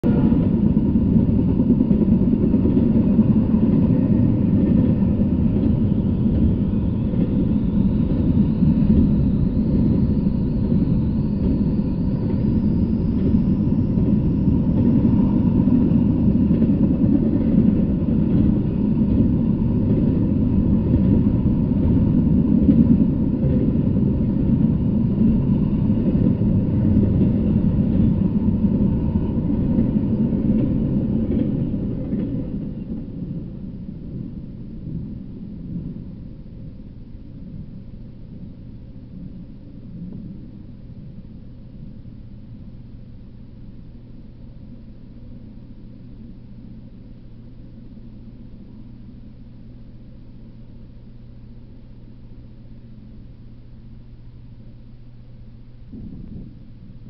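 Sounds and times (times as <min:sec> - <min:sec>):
freight train wheels rumbling: 0:00.0 - 0:49.3.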